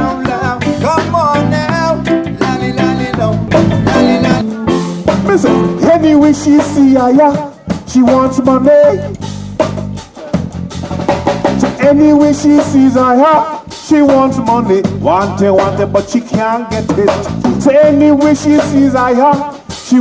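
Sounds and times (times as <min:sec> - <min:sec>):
live reggae band playing: 0:00.0 - 0:20.0.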